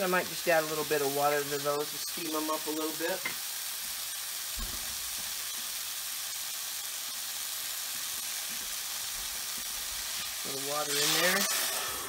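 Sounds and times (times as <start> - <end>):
mushrooms sizzling in butter: 0.0 - 12.0.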